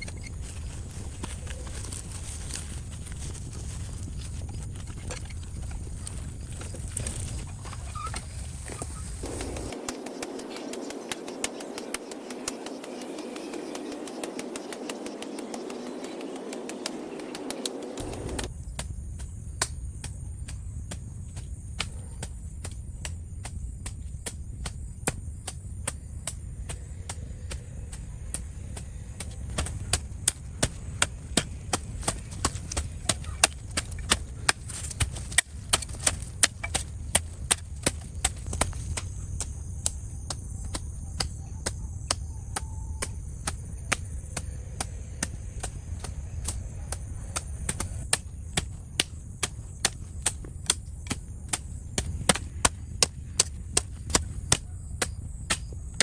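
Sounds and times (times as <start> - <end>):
steady low hum: 0.0 - 56.0
tool chopping: 9.2 - 56.0.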